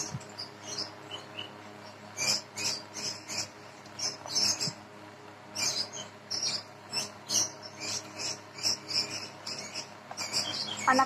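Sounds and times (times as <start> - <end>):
bird chirping: 0.0 - 4.9, 5.5 - 11.0.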